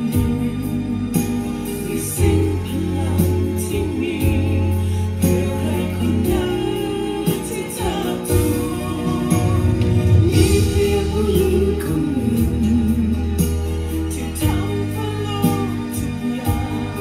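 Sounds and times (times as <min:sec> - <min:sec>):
instrumental music with a beat: 0:00.0 - 0:17.0
person singing: 0:00.0 - 0:17.0.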